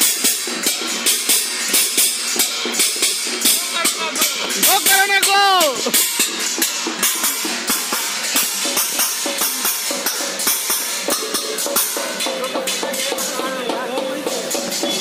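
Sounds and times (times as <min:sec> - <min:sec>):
metal plates being beaten: 0:00.0 - 0:15.0.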